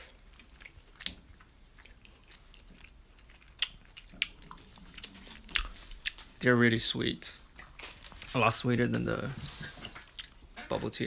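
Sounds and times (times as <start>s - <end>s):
person chewing frozen popsicle: 0.0s - 6.4s, 7.4s - 10.6s.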